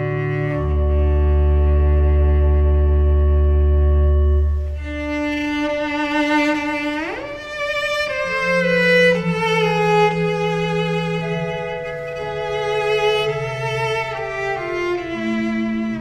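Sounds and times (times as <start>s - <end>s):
cello bowed notes: 0.0s - 16.0s.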